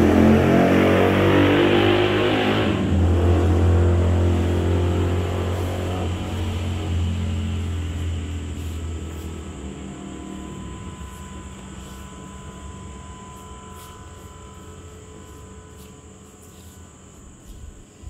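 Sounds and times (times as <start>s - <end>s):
high-pitched whine: 0.0s - 18.0s
low engine rumble: 0.0s - 18.0s.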